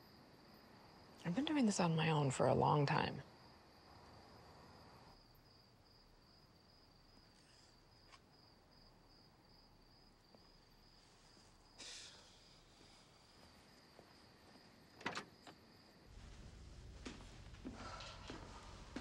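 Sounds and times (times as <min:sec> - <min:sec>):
faint crickets chirping: 0:00.0 - 0:19.0.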